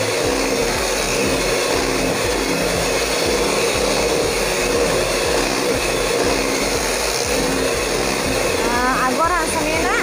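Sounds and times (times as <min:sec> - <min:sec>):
electric hand mixer whipping batter: 0:00.0 - 0:10.0.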